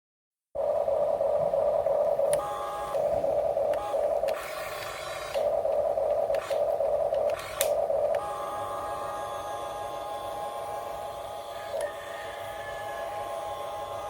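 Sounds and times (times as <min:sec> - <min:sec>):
small electric motors whining: 0:02.3 - 0:14.0.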